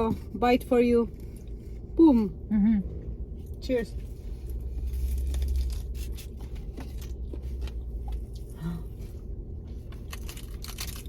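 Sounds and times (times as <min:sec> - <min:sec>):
low hum: 0:00.0 - 0:11.0
chewing and crunching tacos: 0:00.1 - 0:02.0, 0:03.3 - 0:11.0.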